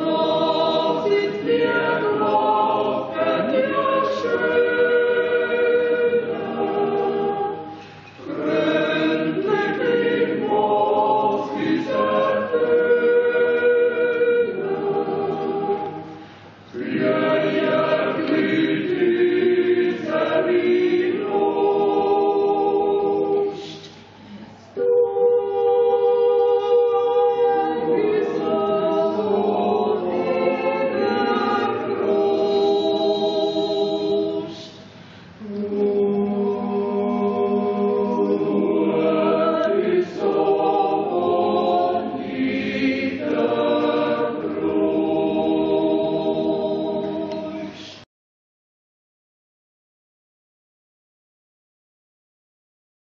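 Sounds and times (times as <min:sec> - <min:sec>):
choir singing held chords: 0:00.0 - 0:48.0
choir breaths: 0:00.0 - 0:48.1.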